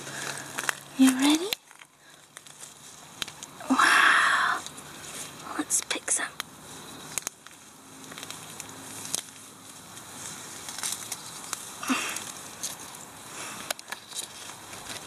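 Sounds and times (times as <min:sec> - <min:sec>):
plants rustling and crackling: 0:00.0 - 0:15.0.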